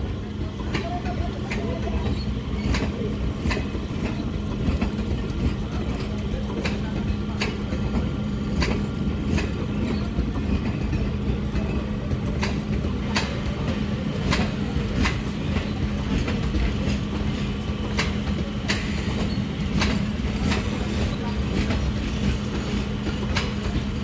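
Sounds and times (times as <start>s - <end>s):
train coaches rumbling past: 0.0s - 24.0s
wheels clicking over rail joints: 0.4s - 24.0s.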